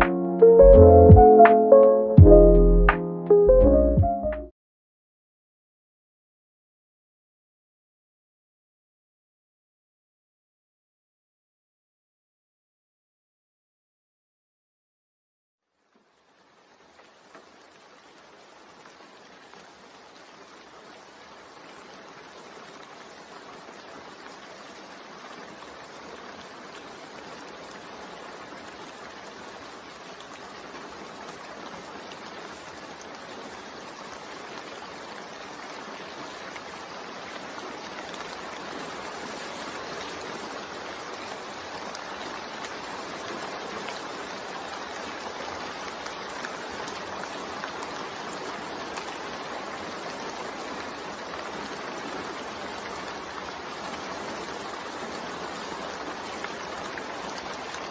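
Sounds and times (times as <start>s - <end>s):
steady rain falling: 0.0s - 4.4s, 15.7s - 57.9s.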